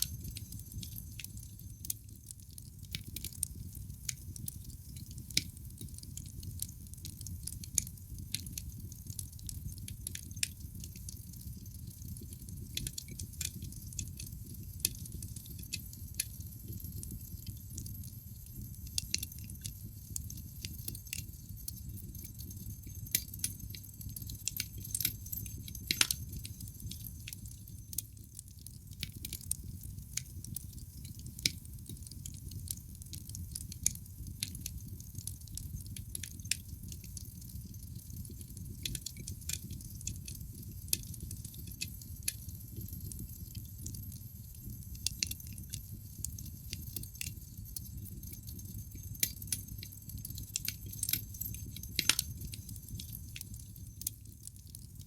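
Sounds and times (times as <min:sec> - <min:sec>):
logs crackling and popping: 0:00.0 - 0:54.8
low rumble of flames: 0:00.0 - 0:54.9.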